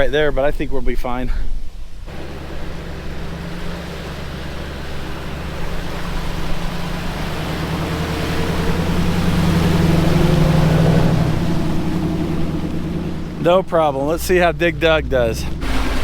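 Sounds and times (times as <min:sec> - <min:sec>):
water washing: 0:02.0 - 0:16.0
vehicle engine running: 0:02.1 - 0:16.0.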